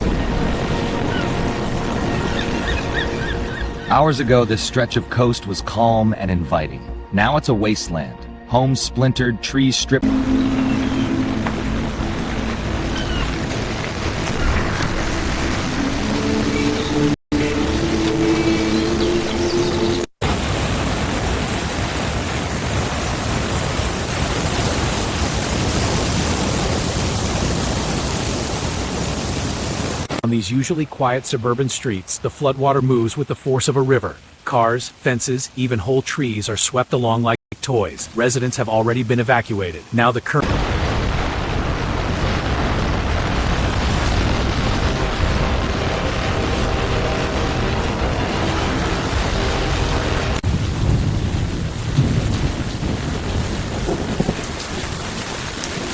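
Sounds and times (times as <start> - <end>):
floodwater rushing: 0.0 - 5.8, 8.6 - 55.9.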